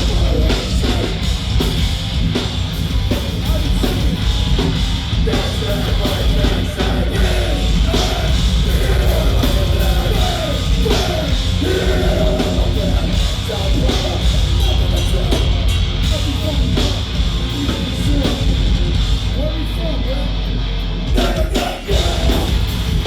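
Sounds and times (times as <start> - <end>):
pounding drum kit: 0.0 - 19.6, 21.1 - 23.0
heavy metal band playing live: 0.0 - 23.0
vocals: 0.0 - 23.0.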